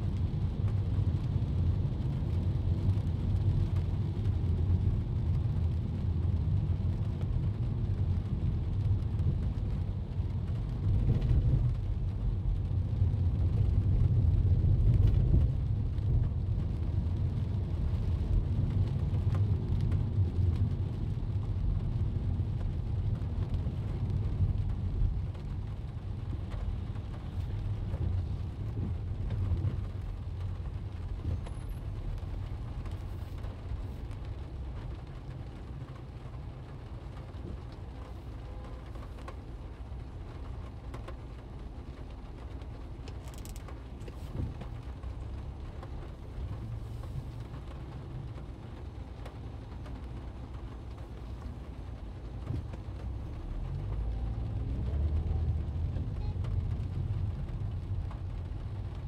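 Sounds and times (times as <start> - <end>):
car engine and tyres rumbling: 0.0 - 59.0
faint rain hiss: 0.0 - 59.0.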